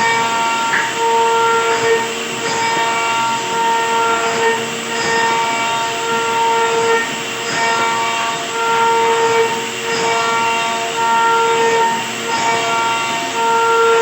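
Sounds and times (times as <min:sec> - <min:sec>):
router spindle whining cutting wood: 0:00.0 - 0:14.0.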